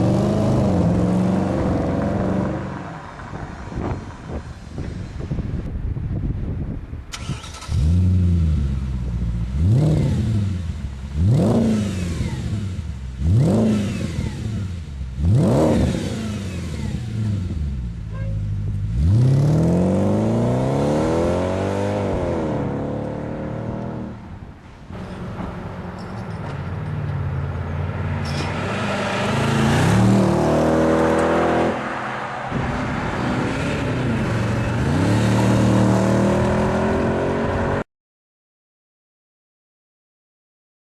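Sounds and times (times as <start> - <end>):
car engine revving: 0.0 - 4.4, 7.2 - 24.2, 25.0 - 37.8.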